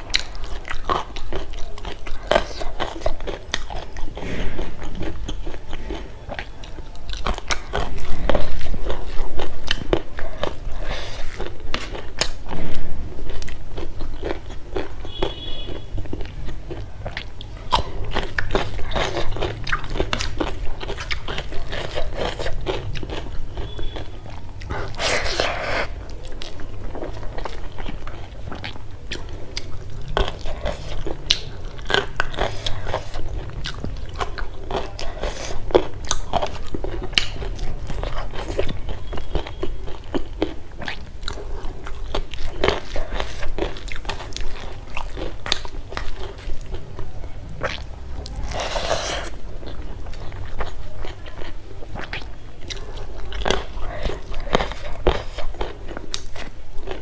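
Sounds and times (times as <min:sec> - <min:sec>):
person chewing with wet mouth sounds: 0:00.0 - 0:57.0.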